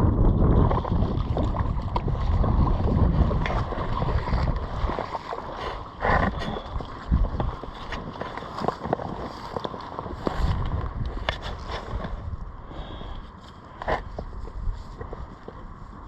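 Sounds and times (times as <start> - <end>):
wind buffeting microphone: 0.0 - 13.2, 13.8 - 16.0
floodwater sloshing and splashing: 0.0 - 16.0.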